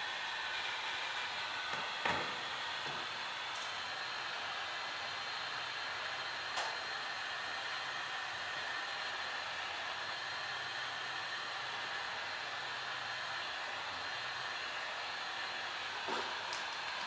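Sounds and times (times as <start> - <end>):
heat gun blowing: 0.0 - 17.0.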